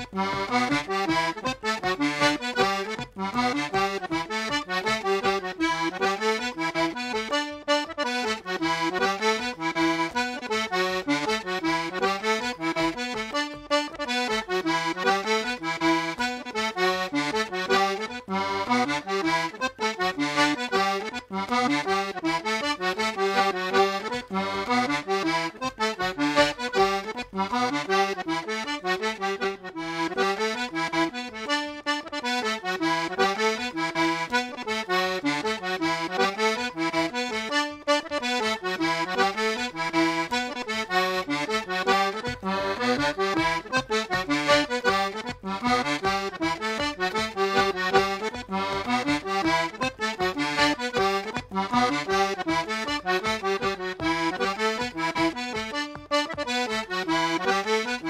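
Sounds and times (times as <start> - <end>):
button accordion playing fast tune: 0.0 - 58.0.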